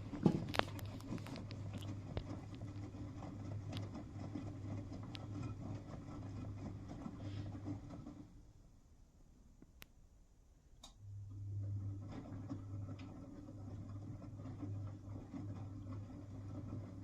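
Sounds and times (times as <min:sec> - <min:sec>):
washing machine running: 0:00.0 - 0:08.5, 0:11.0 - 0:17.0.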